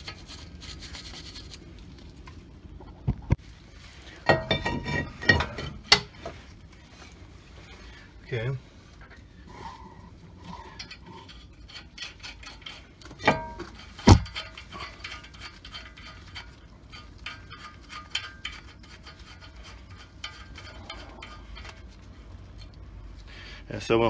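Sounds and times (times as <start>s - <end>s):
brake rotor scraping: 3.8s - 23.7s.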